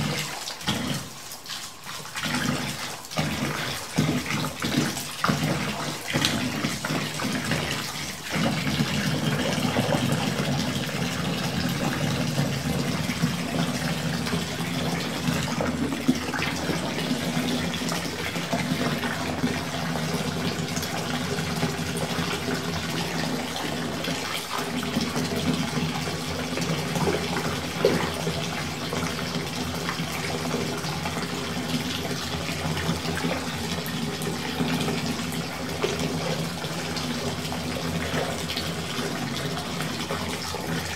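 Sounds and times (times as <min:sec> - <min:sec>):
bath tap running: 0:00.0 - 0:40.9.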